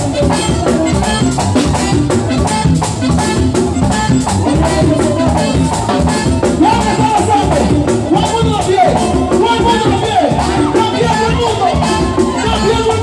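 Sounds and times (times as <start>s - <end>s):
accordion: 0.0s - 13.0s.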